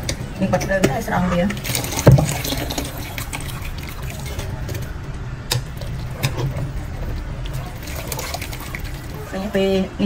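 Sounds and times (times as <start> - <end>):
steady low hum: 0.0 - 10.0
water sloshing and dripping: 0.9 - 9.7.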